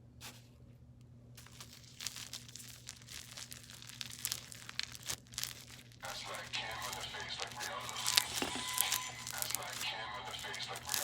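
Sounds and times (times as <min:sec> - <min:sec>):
faint steady hum: 0:00.0 - 0:11.0
slime squeezed crackling: 0:01.4 - 0:11.0.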